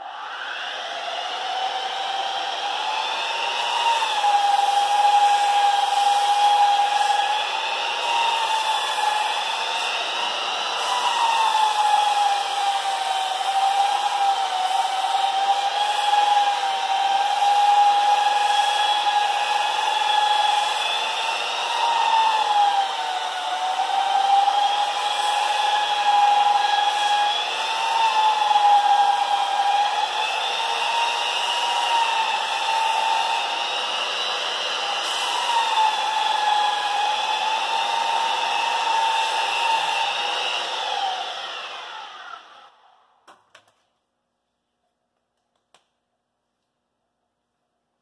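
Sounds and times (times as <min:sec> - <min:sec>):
electric sander whining: 0:00.0 - 0:42.9.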